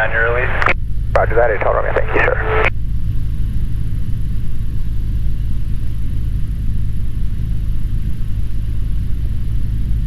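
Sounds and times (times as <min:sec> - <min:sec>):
airplane engine drone in cabin: 0:00.0 - 0:10.0.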